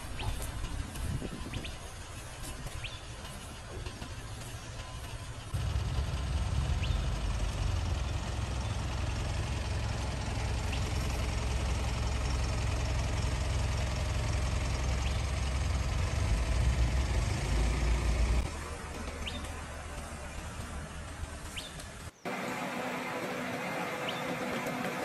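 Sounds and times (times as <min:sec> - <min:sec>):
car engine idling: 0:03.0 - 0:25.0.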